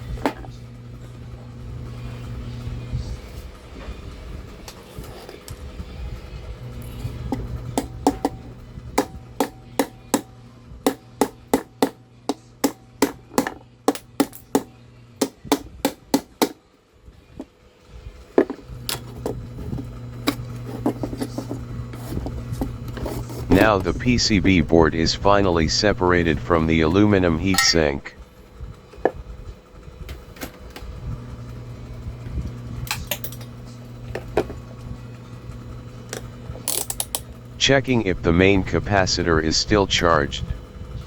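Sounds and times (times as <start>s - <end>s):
low steady hum: 0.0s - 16.3s, 17.0s - 41.0s.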